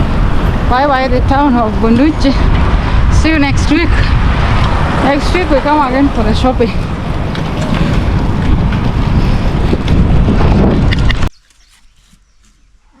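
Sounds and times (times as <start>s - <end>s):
wind buffeting microphone: 0.0s - 12.8s
moving vehicle rumble: 0.0s - 13.0s.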